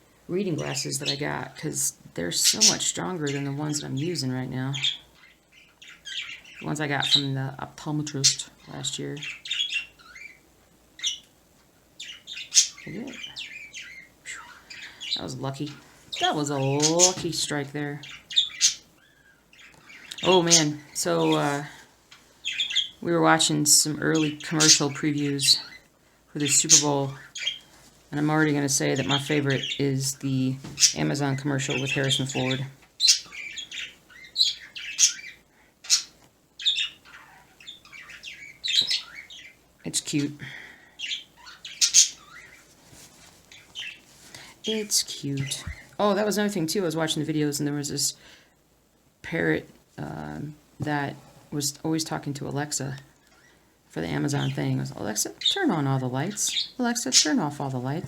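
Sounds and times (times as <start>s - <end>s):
birds chirping and squawking: 0.0s - 42.8s, 43.4s - 48.4s, 49.4s - 58.0s.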